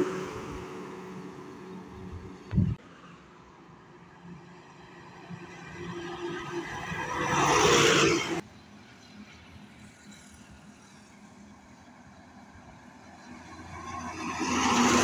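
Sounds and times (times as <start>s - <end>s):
road hum: 0.0s - 15.0s.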